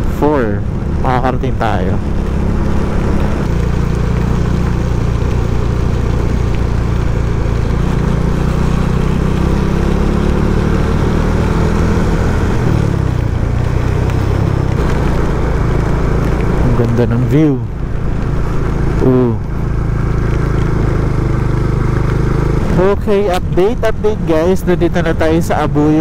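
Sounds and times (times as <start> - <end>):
motorcycle engine running: 0.0 - 26.0
wet road noise: 0.0 - 26.0.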